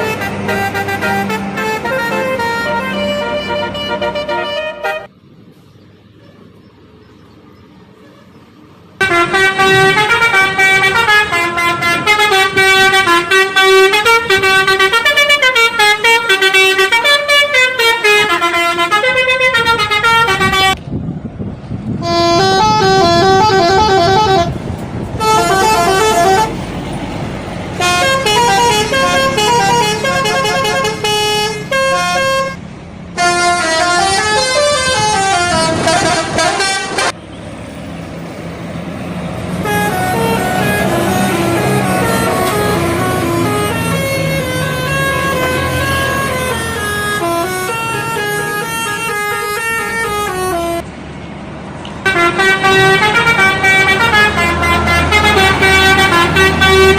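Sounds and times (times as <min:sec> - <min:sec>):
musical bus air horn: 0:00.0 - 0:05.1, 0:09.0 - 0:20.8, 0:22.0 - 0:26.7, 0:27.7 - 0:37.2, 0:39.6 - 0:50.8, 0:52.0 - 0:56.9.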